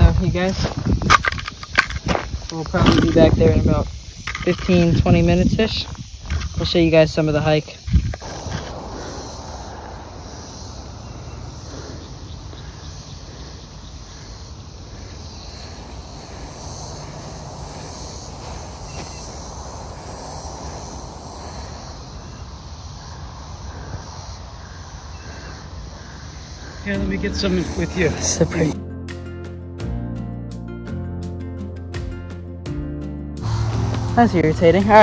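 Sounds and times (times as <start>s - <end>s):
insects buzzing: 0.0s - 35.0s.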